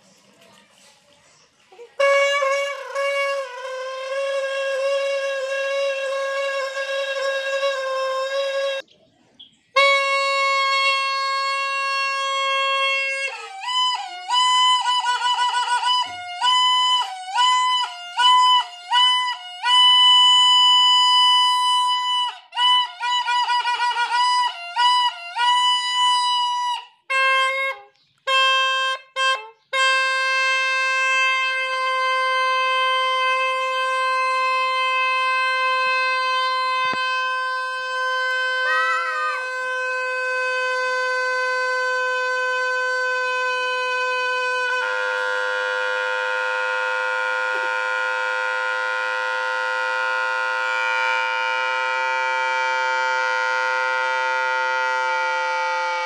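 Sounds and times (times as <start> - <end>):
plastic trumpet horn tone: 1.8 - 8.9, 9.8 - 56.0.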